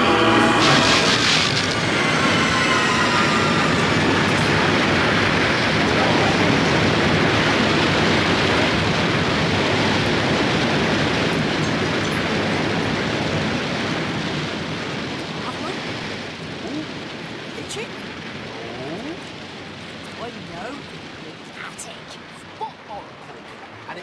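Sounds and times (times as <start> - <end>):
loud steady rushing noise: 0.0 - 24.0.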